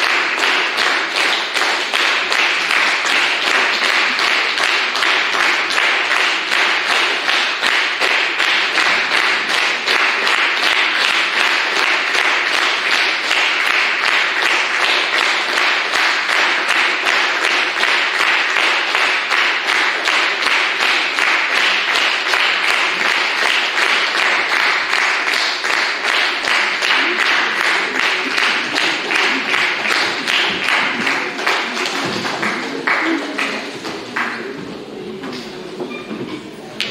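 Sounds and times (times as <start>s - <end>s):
audience applauding: 0.0s - 35.0s.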